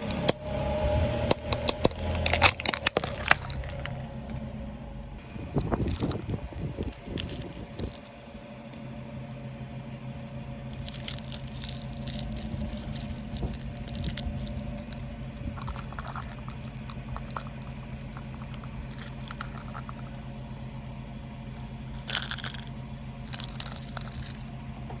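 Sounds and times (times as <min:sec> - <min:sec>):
car engine running: 0:00.0 - 0:25.0
objects crunching under tyres: 0:00.0 - 0:25.0.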